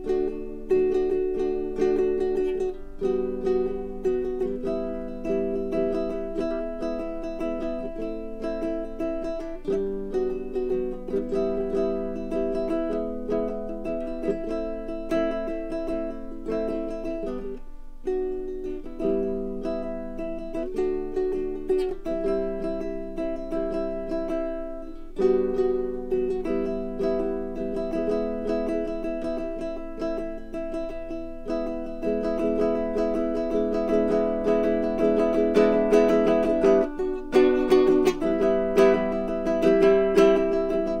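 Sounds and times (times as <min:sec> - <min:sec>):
ukulele plucked notes and chords: 0:00.0 - 0:41.0.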